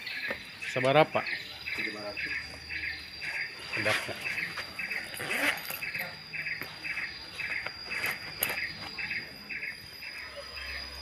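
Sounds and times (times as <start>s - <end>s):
high-pitched whine: 0.0s - 11.0s
insects chirping: 0.0s - 11.0s.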